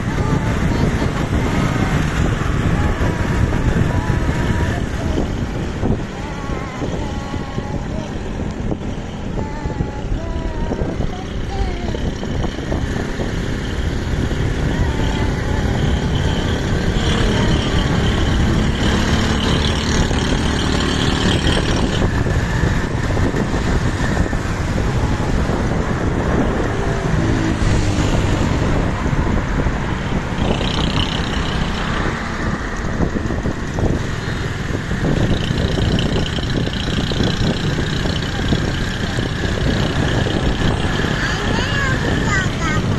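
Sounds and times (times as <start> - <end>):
vehicle engine and road noise: 0.0 - 42.9
wind buffeting microphone: 0.0 - 42.9.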